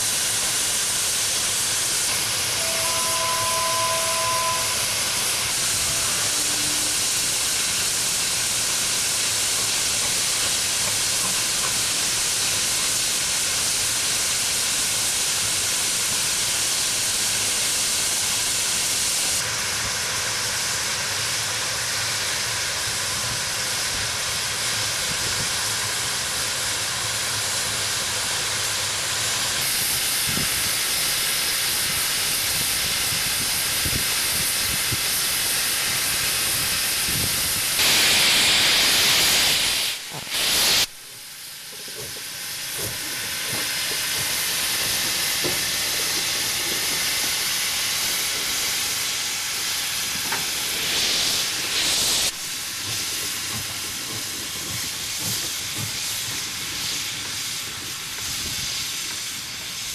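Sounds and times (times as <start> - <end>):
loud blast of steam: 0.0 - 59.9
steam locomotive hissing: 0.0 - 59.9.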